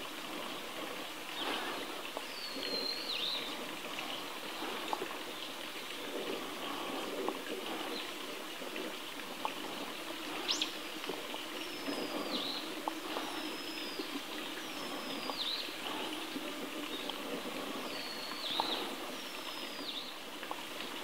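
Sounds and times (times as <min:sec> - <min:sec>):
steady outdoor hiss: 0:00.0 - 0:21.0
faint ticks: 0:00.2 - 0:21.0
small wild birds calling: 0:00.4 - 0:21.0.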